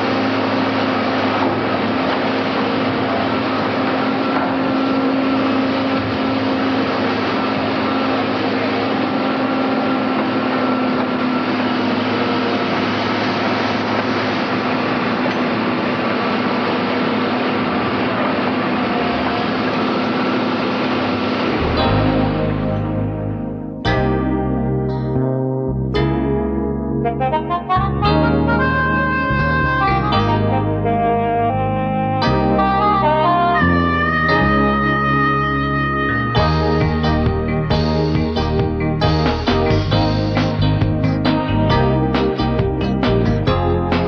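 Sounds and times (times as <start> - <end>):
heavy machine engine running: 0.0 - 25.3, 27.2 - 44.0.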